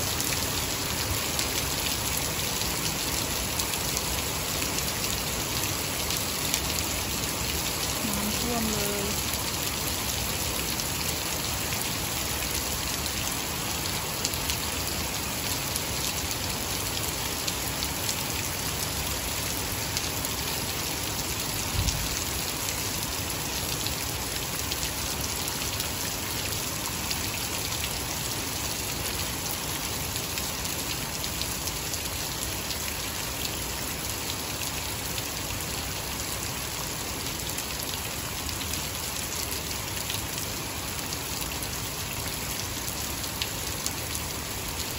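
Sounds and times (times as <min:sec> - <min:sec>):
heavy rain splashing into puddles: 0:00.0 - 0:44.9.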